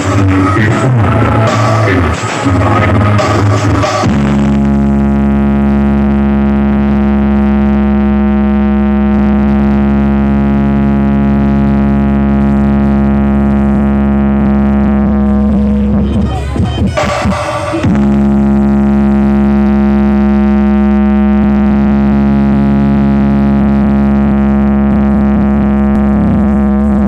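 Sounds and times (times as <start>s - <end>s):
beat-driven music: 0.0s - 27.0s
loud drone from sound system: 0.0s - 27.0s.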